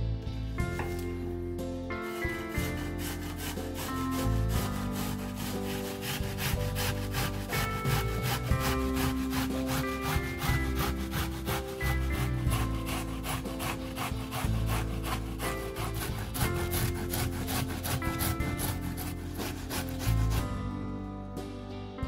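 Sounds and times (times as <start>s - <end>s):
soft background music: 0.0s - 22.0s
rasping strokes of food: 2.0s - 20.6s.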